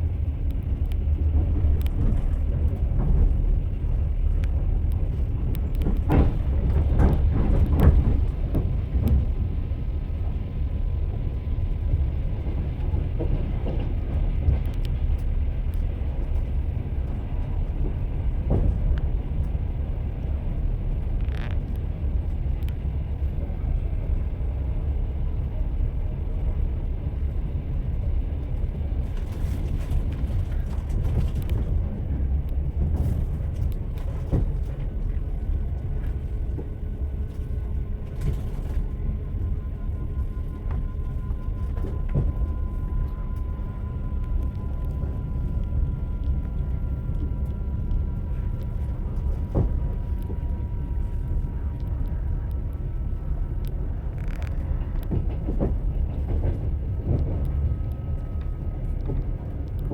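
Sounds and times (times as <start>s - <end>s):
train rumbling: 0.0s - 59.9s
train wheels clattering on track: 0.4s - 59.9s.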